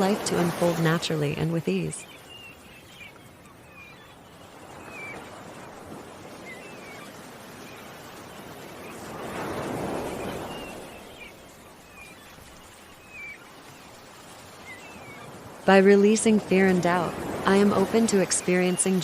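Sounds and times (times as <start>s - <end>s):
ocean waves washing in: 0.0s - 19.0s
small birds chirping: 0.0s - 19.0s.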